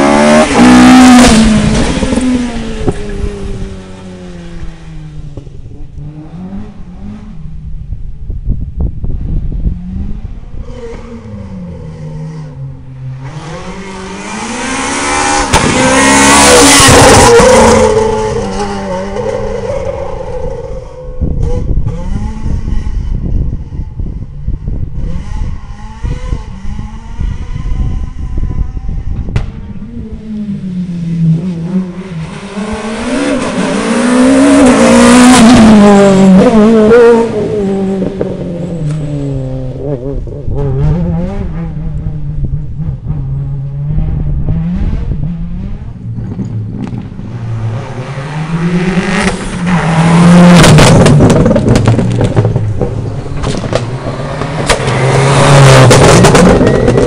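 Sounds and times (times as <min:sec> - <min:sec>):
rally cars revving past: 0:00.0 - 0:07.5, 0:09.7 - 0:23.9, 0:24.5 - 0:57.0.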